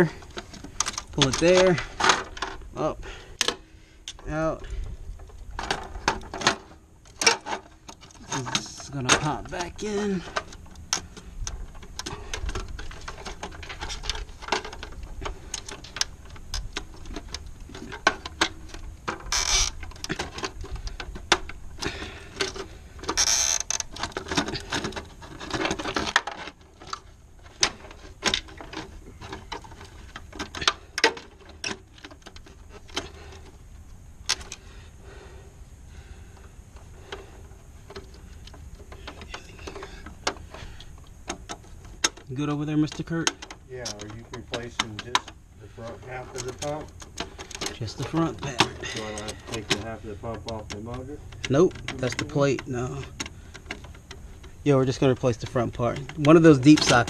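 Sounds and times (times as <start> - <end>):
tools clicking and rattling on metal: 0.0 - 2.8, 3.4 - 33.6, 36.8 - 57.0
low steady hum: 0.0 - 57.0.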